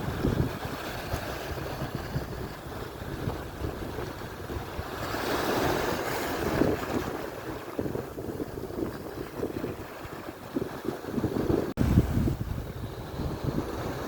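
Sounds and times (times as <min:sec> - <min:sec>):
surf washing onto shore: 0:00.0 - 0:14.0
wind buffeting microphone: 0:00.0 - 0:14.0.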